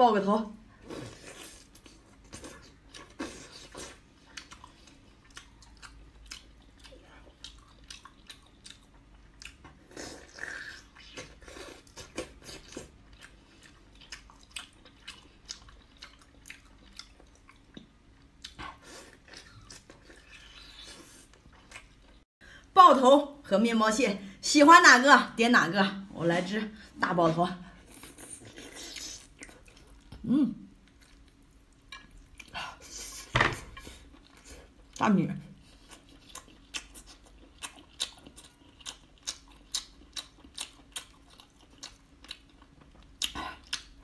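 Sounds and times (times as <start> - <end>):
chewing octopus: 0.7 - 22.3, 27.7 - 35.0, 35.6 - 44.0.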